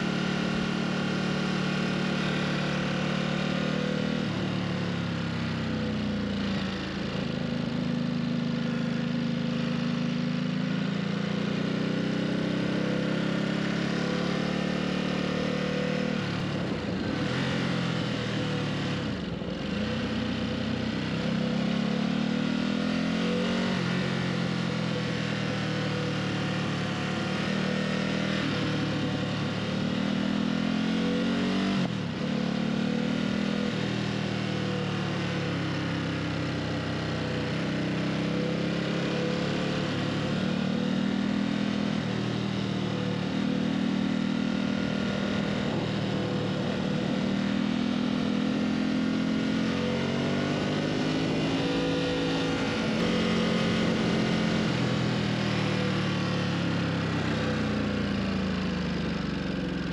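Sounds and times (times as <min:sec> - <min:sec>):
motorcycle engine accelerating: 0:00.0 - 0:59.9
wind and road noise: 0:00.0 - 0:59.9.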